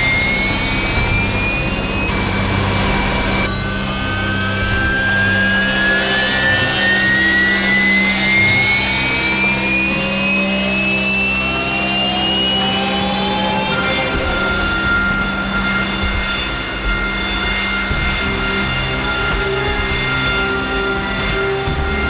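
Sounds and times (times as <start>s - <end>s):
jet engine spooling up: 0.0s - 22.0s.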